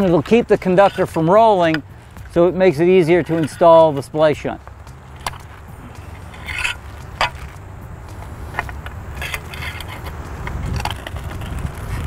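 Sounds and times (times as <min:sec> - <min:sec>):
metal rods scraping and clicking: 0:00.0 - 0:12.0
steady low rumble: 0:00.0 - 0:12.0.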